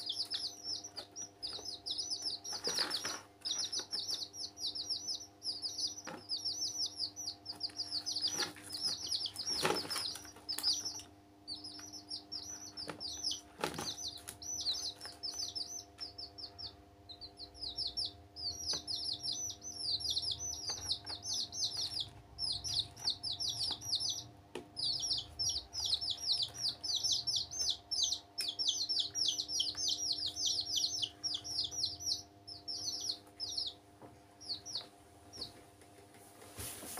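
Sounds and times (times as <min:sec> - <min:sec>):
baby chicks peeping: 0:00.0 - 0:36.9
faint steady hum: 0:00.0 - 0:36.9.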